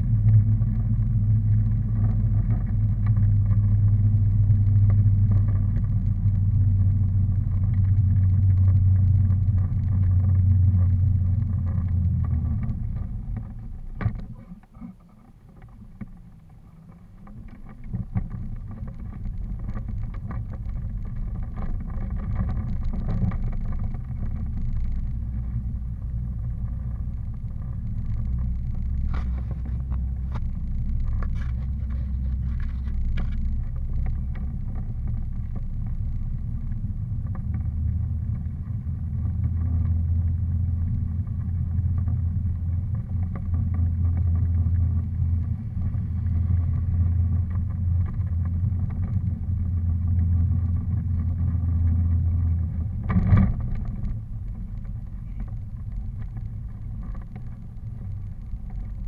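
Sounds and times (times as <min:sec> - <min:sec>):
low rumble of travel noise: 0:00.0 - 0:59.0
faint clicks: 0:04.4 - 0:59.0.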